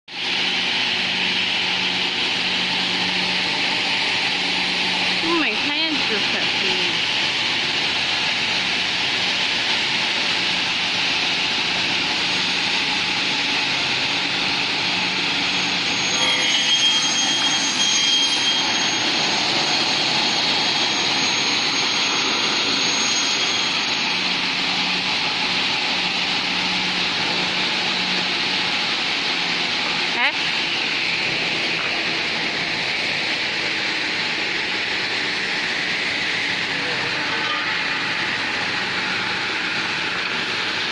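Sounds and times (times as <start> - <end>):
cutting saw rushing noise: 0.1 - 40.9
high whine: 0.1 - 40.9.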